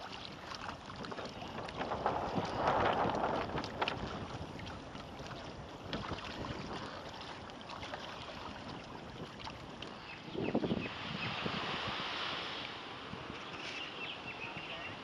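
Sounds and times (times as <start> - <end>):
wind on microphone: 0.0 - 14.9
water lapping against hull: 0.0 - 15.0.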